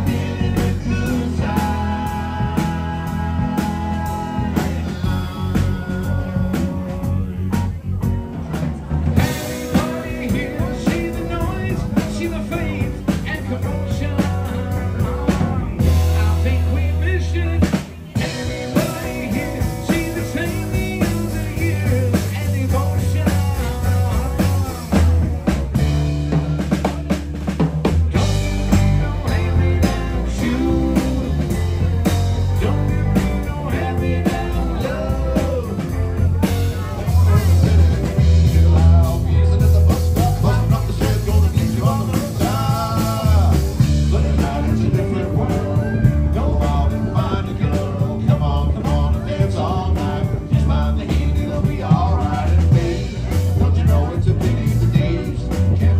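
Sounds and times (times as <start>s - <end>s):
drum kit beat: 0.0s - 55.9s
electric bass line: 0.0s - 55.9s
electric guitar: 0.0s - 55.9s.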